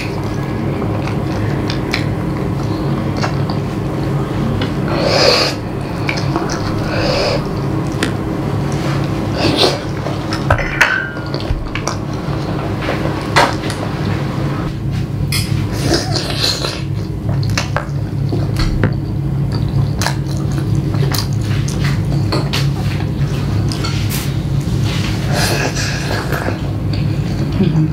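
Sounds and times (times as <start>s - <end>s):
wet chewing and smacking: 0.0s - 13.9s, 15.9s - 27.6s.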